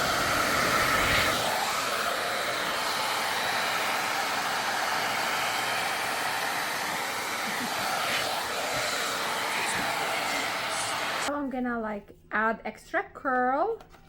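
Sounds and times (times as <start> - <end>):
hair dryer blowing air: 0.0 - 11.3.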